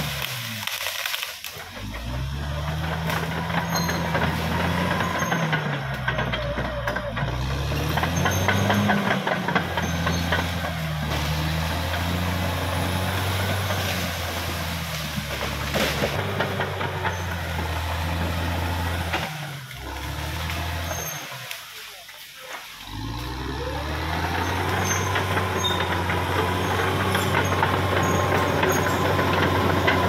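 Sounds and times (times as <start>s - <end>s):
bulldozer diesel engine working: 0.0s - 30.0s.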